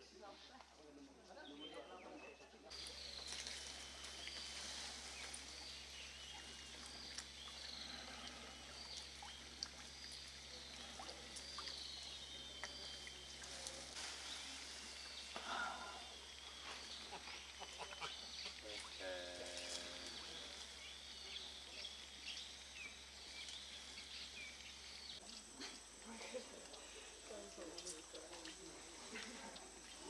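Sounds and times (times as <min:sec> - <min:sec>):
steady hiss: 0:02.7 - 0:30.0.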